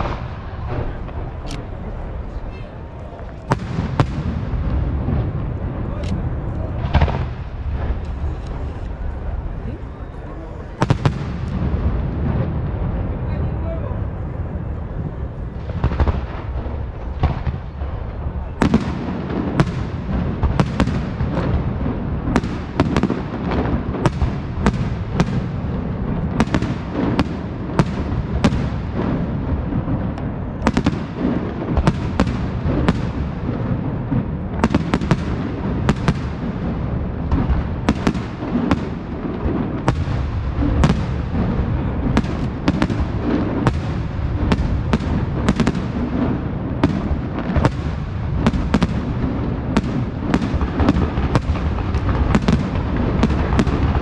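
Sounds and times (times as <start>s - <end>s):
low rumble of launches: 0.0s - 54.0s.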